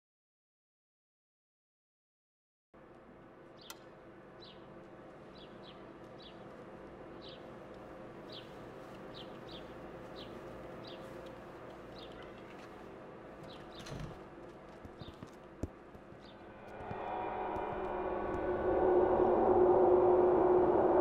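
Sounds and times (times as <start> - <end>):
low background hum: 2.8 - 21.0.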